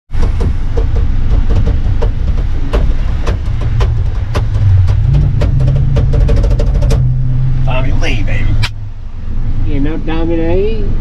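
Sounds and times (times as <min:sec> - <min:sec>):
vehicle engine and road rumble: 0:00.1 - 0:11.0.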